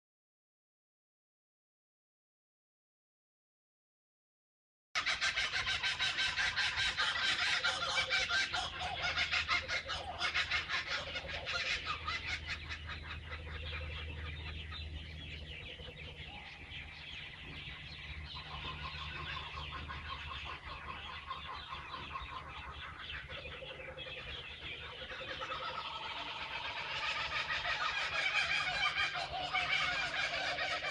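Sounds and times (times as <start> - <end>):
kookaburras laughing: 5.0 - 30.9.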